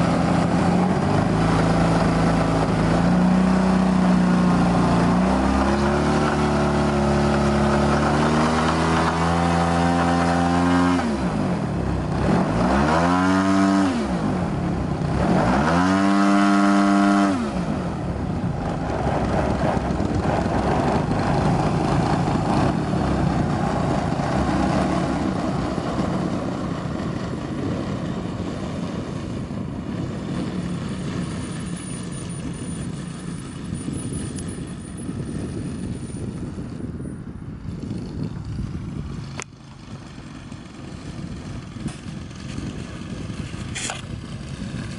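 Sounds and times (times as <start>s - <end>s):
model aircraft engine revving: 0.0s - 37.0s, 37.6s - 44.9s.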